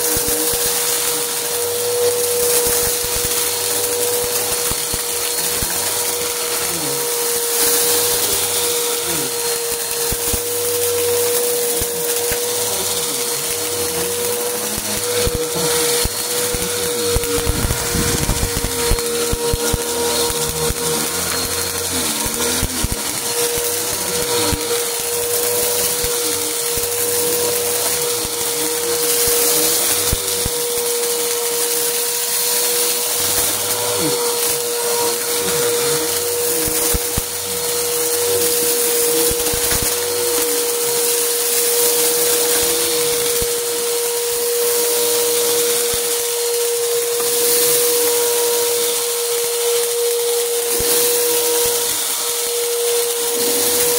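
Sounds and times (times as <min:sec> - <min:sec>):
hard flakes crackling into vacuum: 0:00.0 - 0:53.9
vacuum cleaner motor whine: 0:00.0 - 0:53.9.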